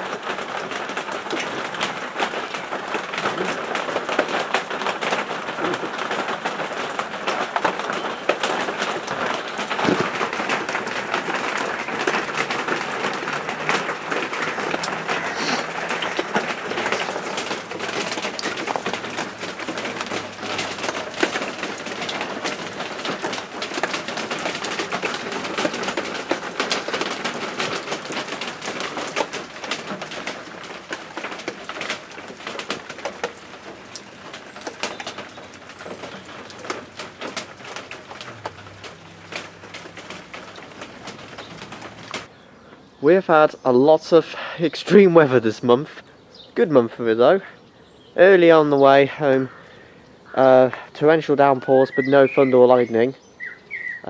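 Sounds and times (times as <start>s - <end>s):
rain pattering on hard surfaces: 0.0s - 54.0s.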